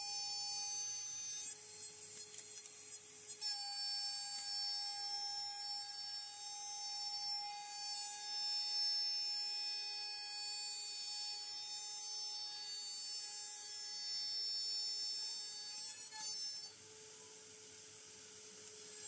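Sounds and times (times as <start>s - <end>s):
cnc router high-pitched whine: 0.0s - 19.0s.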